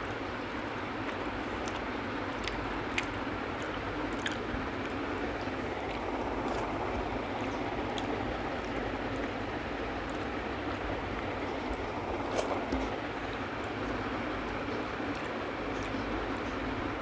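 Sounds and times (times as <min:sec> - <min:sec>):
fingers squishing rice: 0:00.0 - 0:17.0
soft chewing: 0:00.0 - 0:17.0
steady background noise: 0:00.0 - 0:17.0.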